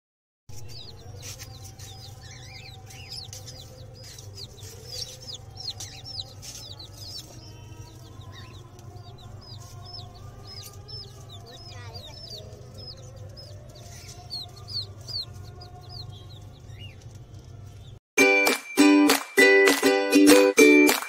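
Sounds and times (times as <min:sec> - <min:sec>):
flock of small birds chirping: 0:00.5 - 0:18.0.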